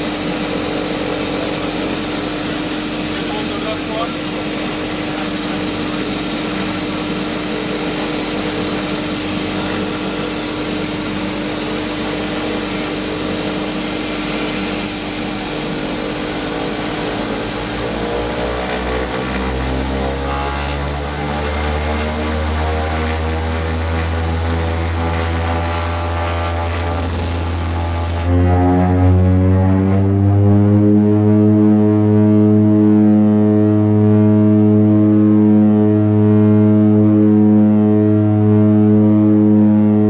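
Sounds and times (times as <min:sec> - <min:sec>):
high turbine whine: 0:00.0 - 0:40.0
low propeller drone: 0:00.0 - 0:40.0.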